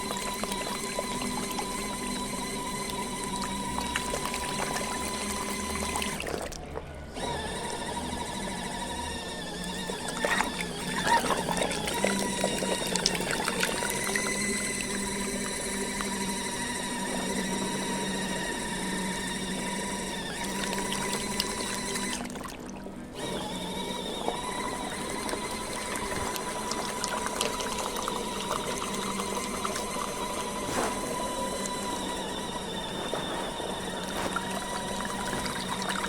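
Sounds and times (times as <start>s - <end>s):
washing machine motor whirring: 0.0s - 36.0s
water churning in tub: 0.0s - 36.0s.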